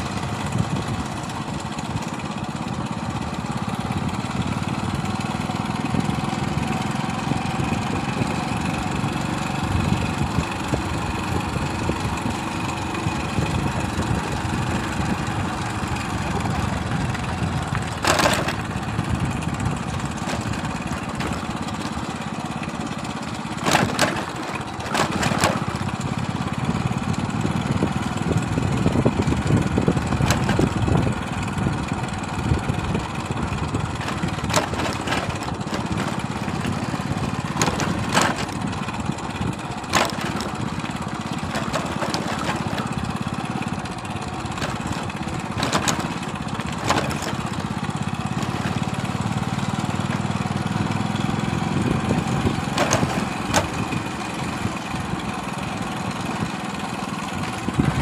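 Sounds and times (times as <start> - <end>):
knocks and rattles: 0.0 - 58.0
small vehicle engine rumbling: 0.0 - 58.0.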